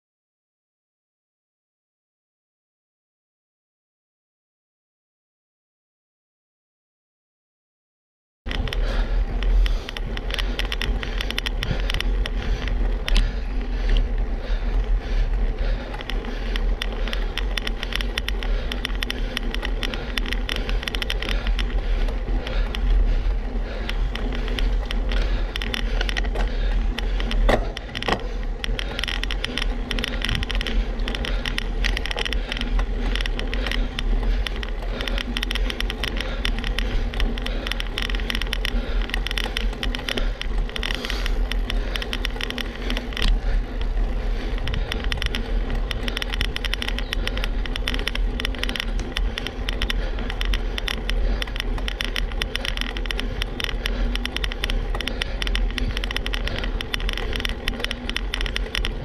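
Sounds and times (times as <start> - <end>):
bicycle tyre and wind noise: 8.5 - 59.0
rattling crackle: 8.5 - 59.0.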